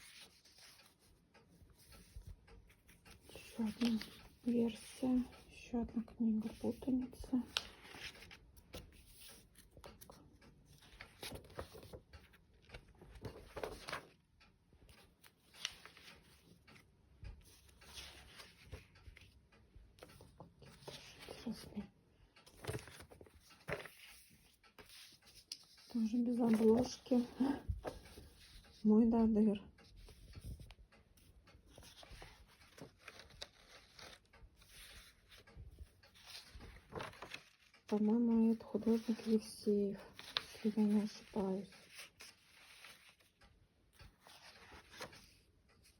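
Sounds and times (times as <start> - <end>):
book pages rustling: 0.0 - 28.9, 29.8 - 45.9
soft page clicks: 0.0 - 28.9, 29.6 - 45.9.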